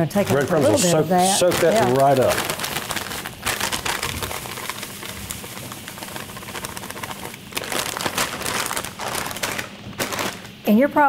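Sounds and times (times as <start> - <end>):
plastic bag crinkling: 0.2 - 10.8.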